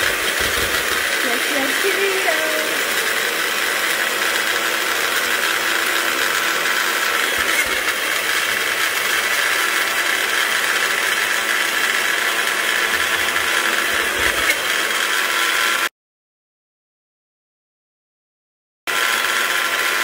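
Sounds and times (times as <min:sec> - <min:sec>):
blender grinding snacks: 0:00.0 - 0:15.9, 0:18.9 - 0:20.0.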